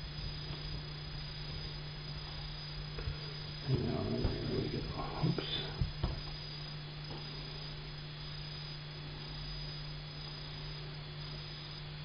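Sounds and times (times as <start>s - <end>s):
faint hiss: 0.0s - 11.8s
low electrical hum: 0.0s - 12.0s.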